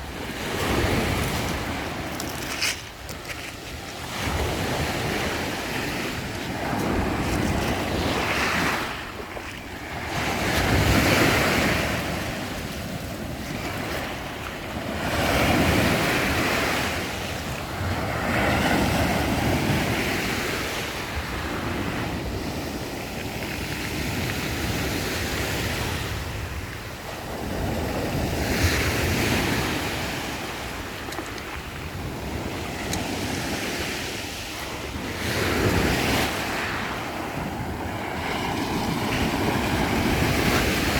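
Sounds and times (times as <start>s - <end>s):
waves breaking on shore: 0.0s - 40.9s
wind rumbling on microphone: 0.0s - 40.9s.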